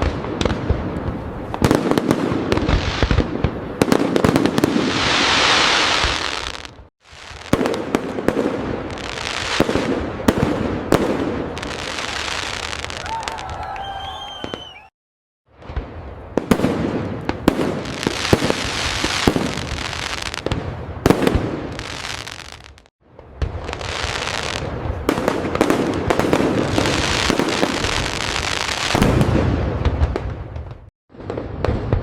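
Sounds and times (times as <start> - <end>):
fireworks crackling and popping: 0.0 - 14.8, 15.5 - 32.0.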